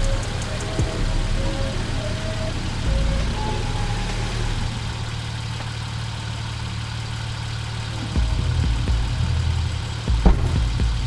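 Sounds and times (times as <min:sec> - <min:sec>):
extra-low rumble: 0:00.0 - 0:11.0
low engine hum: 0:00.0 - 0:11.0.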